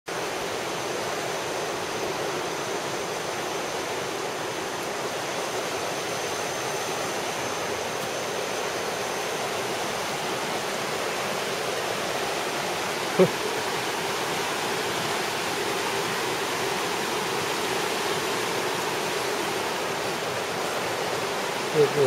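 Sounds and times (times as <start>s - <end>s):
river rapids rushing over rocks: 0.1s - 22.0s.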